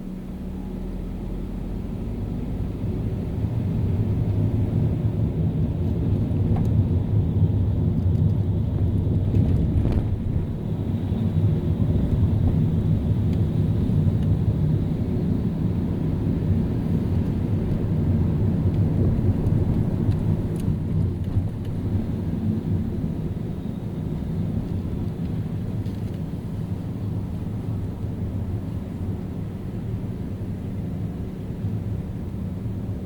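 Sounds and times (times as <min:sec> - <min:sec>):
car tyres and engine rumbling: 0:00.0 - 0:33.0.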